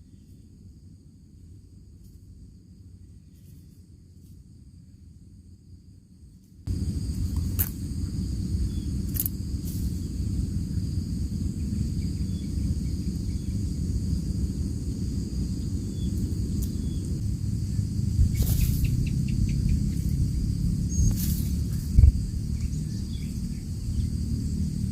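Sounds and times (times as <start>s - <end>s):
crickets chirping: 0.0s - 24.9s
low rumbling noise: 0.0s - 24.9s.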